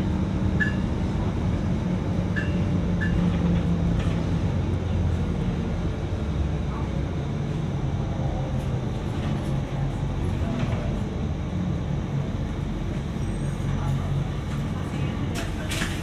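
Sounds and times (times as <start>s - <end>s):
bus engine hum: 0.0s - 16.0s
road and cabin noise: 0.0s - 16.0s.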